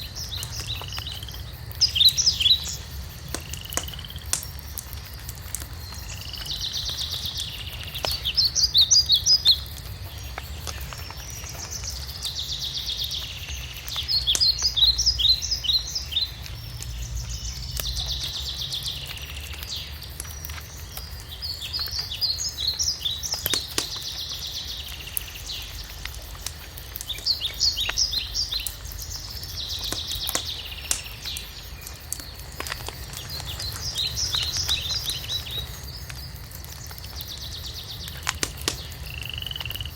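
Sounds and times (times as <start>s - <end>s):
songbird singing: 0.0s - 39.9s
wood fire crackling: 0.0s - 39.9s.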